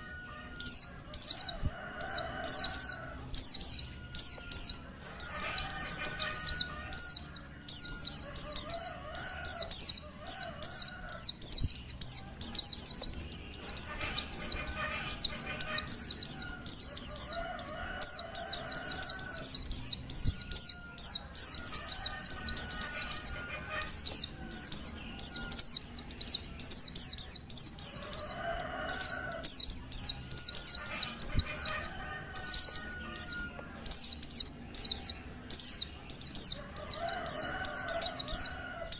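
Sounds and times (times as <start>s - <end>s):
bird high chirps: 0.0s - 38.9s.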